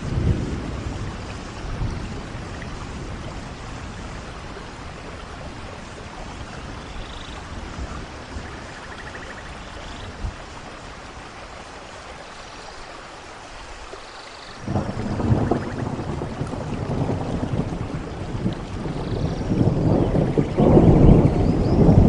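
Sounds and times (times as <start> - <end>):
thunder rumbling: 0.0 - 10.5, 14.6 - 22.0
steady rain: 0.0 - 22.0.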